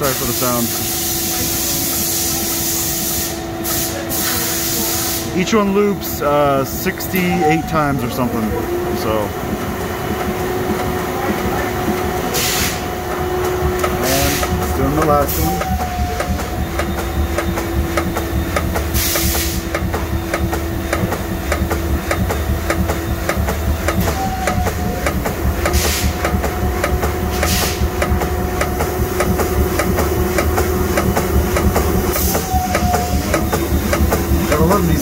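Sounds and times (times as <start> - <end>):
machine whine and rumble: 0.0 - 35.0.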